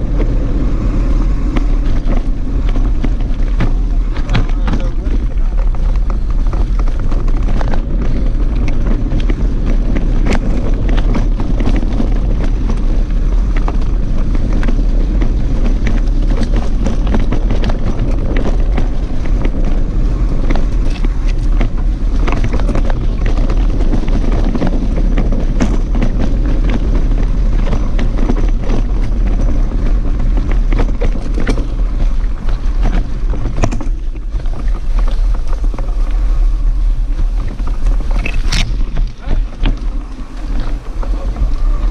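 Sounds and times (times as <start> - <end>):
bike rattling over bumps: 0.0 - 41.9
wind rumble on microphone: 0.0 - 41.9.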